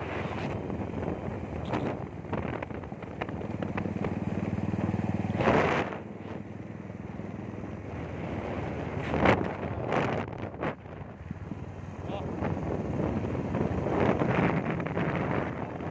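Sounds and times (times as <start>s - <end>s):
wind buffeting microphone: 0.0s - 6.5s, 7.4s - 15.9s
motorcycle engine running: 0.2s - 15.9s.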